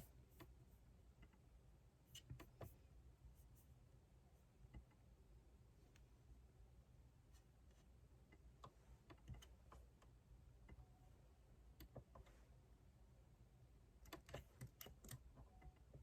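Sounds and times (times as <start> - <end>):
low steady room hum: 0.0 - 16.0.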